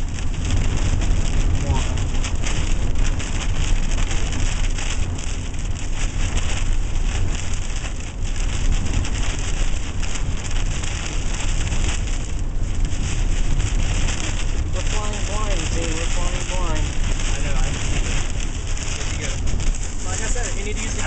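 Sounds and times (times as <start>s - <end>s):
rain hitting a vehicle: 0.0s - 21.0s
road and wind noise: 0.0s - 21.0s.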